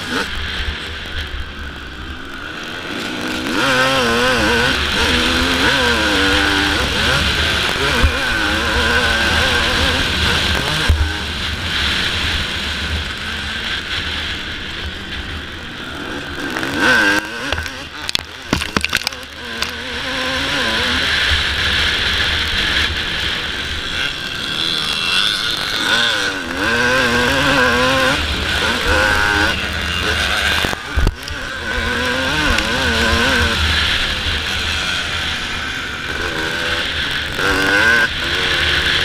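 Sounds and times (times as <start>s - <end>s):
motocross engine running hard: 0.0s - 39.0s.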